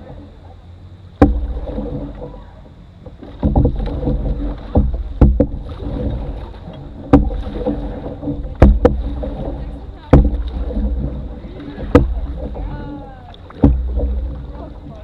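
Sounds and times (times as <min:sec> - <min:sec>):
low rumble of water on hull: 0:00.0 - 0:15.0
paddle strokes through water: 0:00.0 - 0:15.0
paddle knocking on hull: 0:01.1 - 0:15.0.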